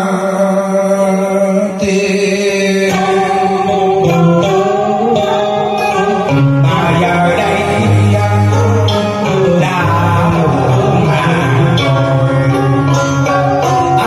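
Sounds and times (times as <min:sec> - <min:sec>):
karaoke backing track: 0:00.0 - 0:14.0
man singing into karaoke microphone: 0:00.0 - 0:14.0.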